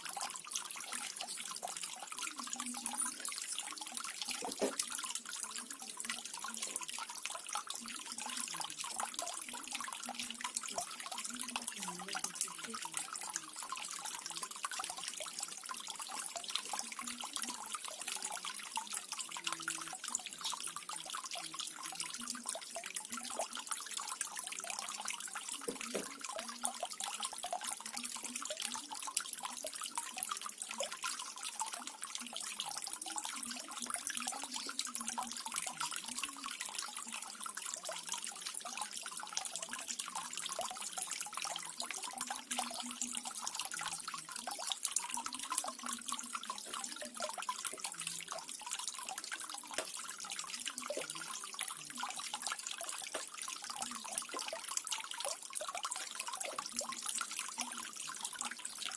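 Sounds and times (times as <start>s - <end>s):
small waterfall splashing: 0.0s - 58.9s
water drips and plinks: 0.0s - 58.9s.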